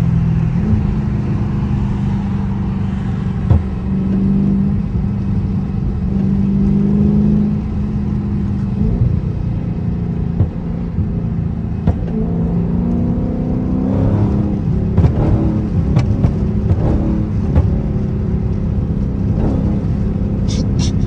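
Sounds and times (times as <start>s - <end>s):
exhaust pops and crackles: 0.0s - 6.8s, 7.6s - 13.4s, 14.1s - 21.0s
car engine: 0.0s - 21.0s.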